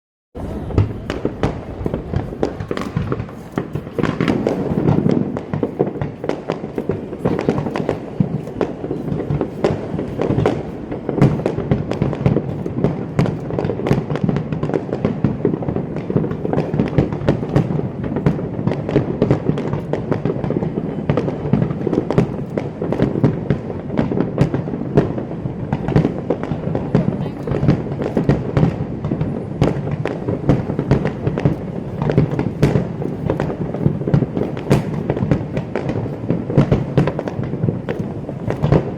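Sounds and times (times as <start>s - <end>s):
fireworks bangs and crackles: 0.4s - 38.9s.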